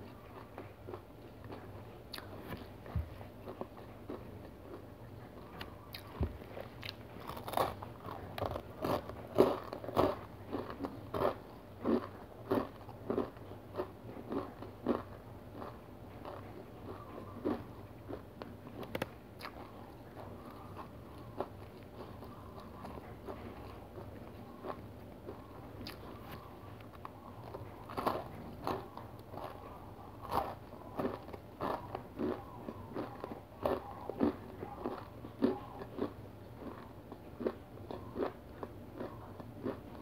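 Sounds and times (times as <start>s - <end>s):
cereal bar crunching: 0.1s - 40.0s.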